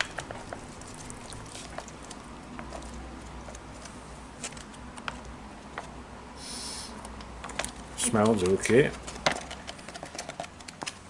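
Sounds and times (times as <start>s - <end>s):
food squishing: 0.0s - 6.0s, 7.0s - 11.0s.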